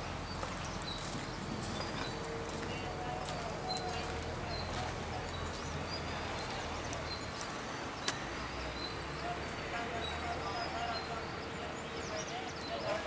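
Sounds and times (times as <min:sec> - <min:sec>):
diesel machinery rumbling: 0:00.0 - 0:13.0
small birds chirping: 0:00.0 - 0:13.0.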